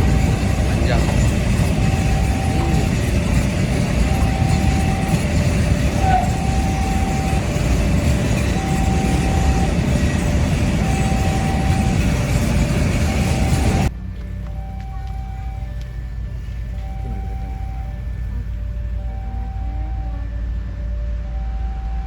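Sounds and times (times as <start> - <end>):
level crossing alarm two-tone: 0.0 - 22.0
train rumbling past: 0.0 - 22.0.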